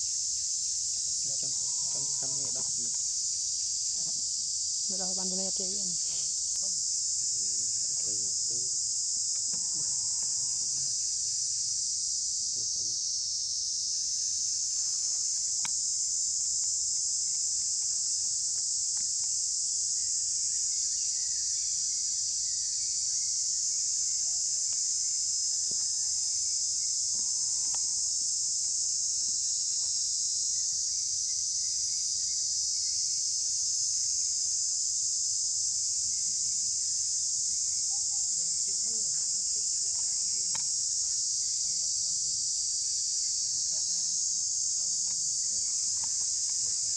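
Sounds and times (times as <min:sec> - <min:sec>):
insect chorus drone: 0:00.0 - 0:46.9.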